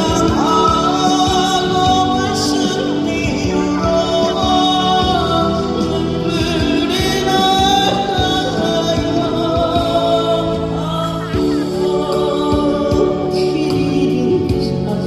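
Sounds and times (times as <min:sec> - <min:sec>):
backing music: 0:00.0 - 0:15.0
person singing a ballad: 0:00.0 - 0:15.0.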